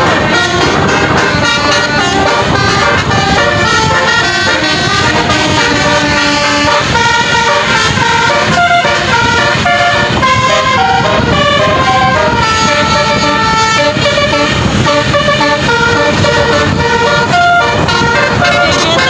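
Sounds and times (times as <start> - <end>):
musical air horn melody: 0.0 - 19.0.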